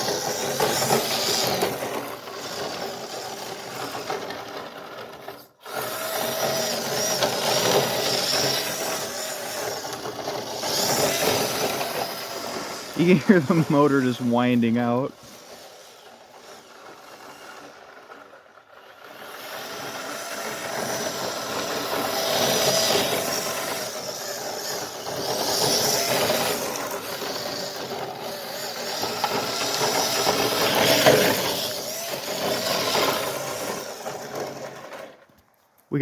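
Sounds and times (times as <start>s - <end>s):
electric motor whining: 0.0s - 15.0s, 16.6s - 35.2s.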